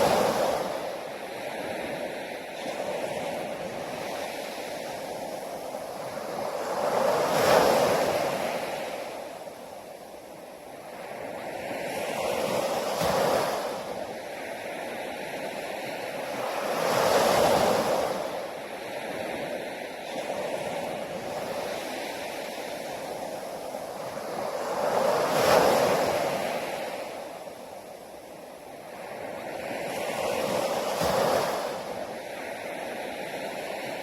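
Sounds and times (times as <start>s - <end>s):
sea waves breaking on shore: 0.0s - 34.0s.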